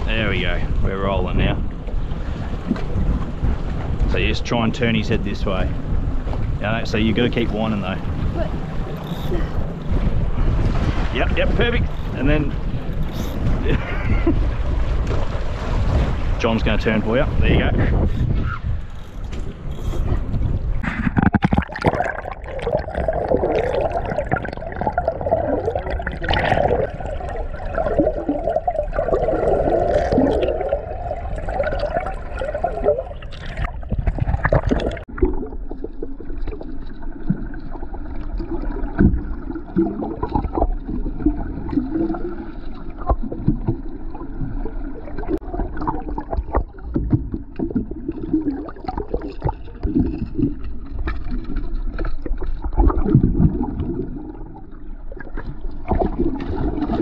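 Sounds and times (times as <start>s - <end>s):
outboard motor rumbling: 0.0s - 57.0s
water gurgling and sloshing: 0.0s - 57.0s.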